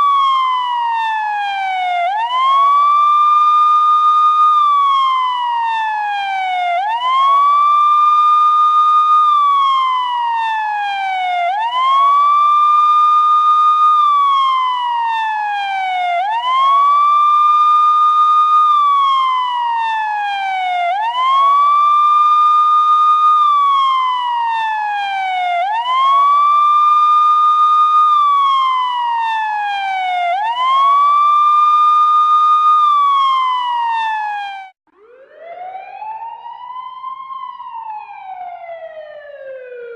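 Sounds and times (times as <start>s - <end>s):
police siren wailing: 0.0s - 39.9s
rising siren tone: 0.0s - 39.9s.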